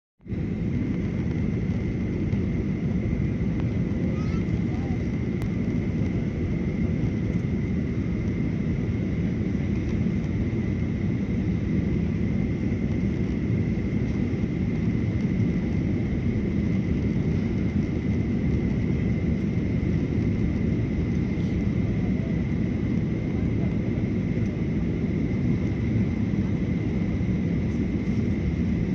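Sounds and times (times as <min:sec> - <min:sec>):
airliner cabin rumble: 0:00.3 - 0:28.9.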